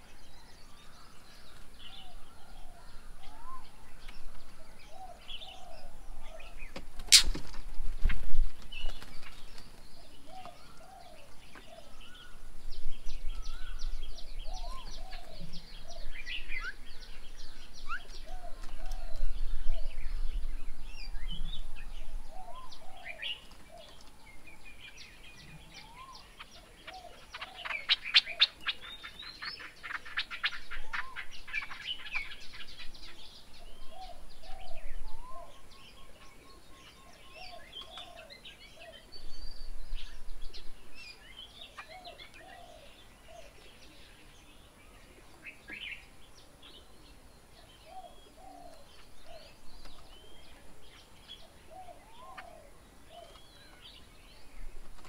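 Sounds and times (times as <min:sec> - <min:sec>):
birds calling and chirping: 0:00.0 - 0:55.0.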